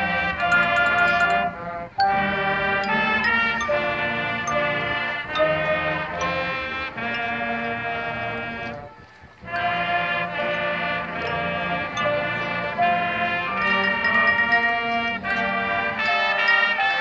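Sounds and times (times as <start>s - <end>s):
marching band brass playing: 0.0s - 17.0s.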